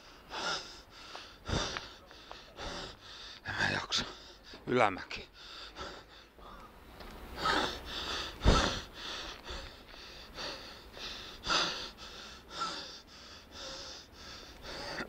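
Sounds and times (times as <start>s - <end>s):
man panting heavily: 0.0s - 15.0s.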